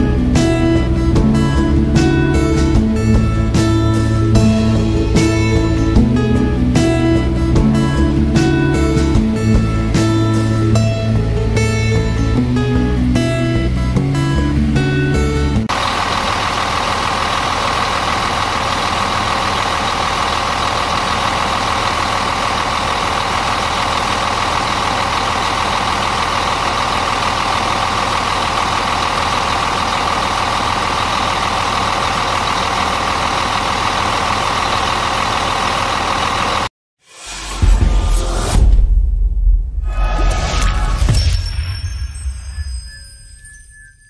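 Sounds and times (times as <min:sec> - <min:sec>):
diesel engine idling: 0:00.0 - 0:36.7.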